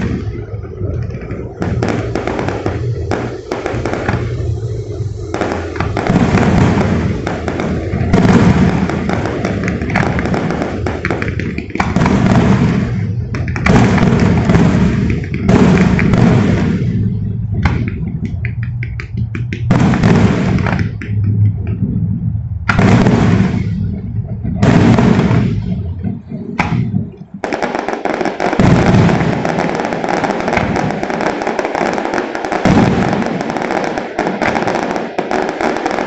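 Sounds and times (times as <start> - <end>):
fireworks bangs and crackling: 0.0 - 36.0.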